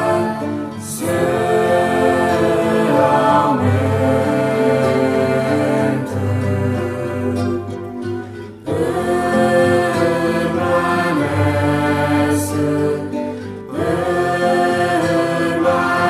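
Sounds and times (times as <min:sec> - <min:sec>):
slow sacred choir singing: 0:00.0 - 0:16.0.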